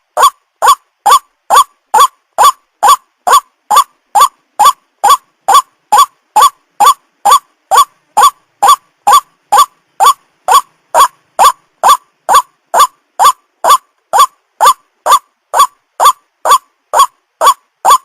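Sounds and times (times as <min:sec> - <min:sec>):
waterhen calling: 0:00.2 - 0:18.0.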